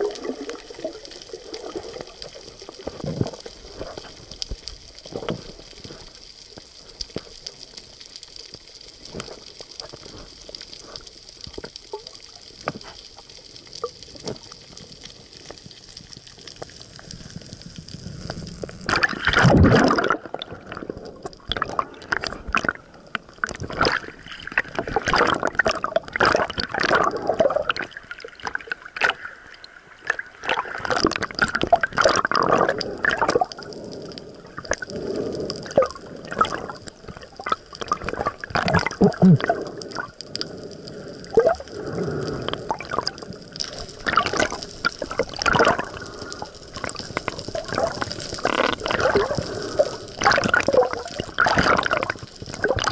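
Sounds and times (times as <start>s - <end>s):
water sloshing and gurgling: 0.0s - 52.9s.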